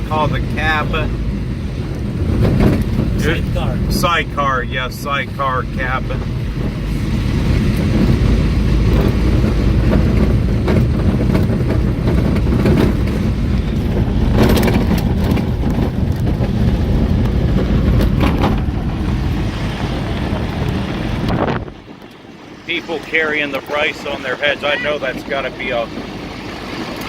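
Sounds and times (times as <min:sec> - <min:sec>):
sharp rattles or bumps: 0:00.0 - 0:21.7
vehicle engine and road rumble: 0:00.0 - 0:27.0
wind buffeting microphone: 0:00.0 - 0:27.0.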